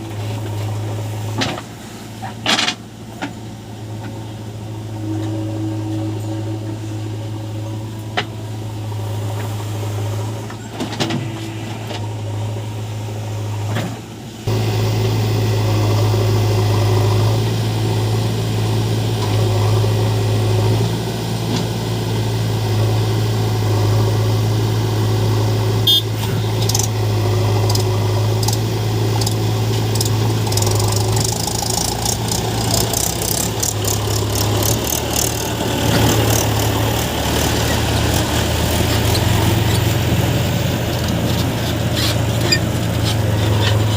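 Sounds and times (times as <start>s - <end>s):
heavy diesel engine humming: 0.0s - 43.9s.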